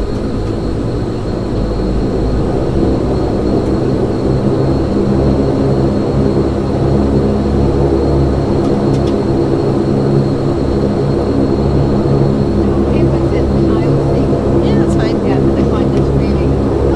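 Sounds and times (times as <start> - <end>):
turboprop engine droning: 0.0 - 16.9.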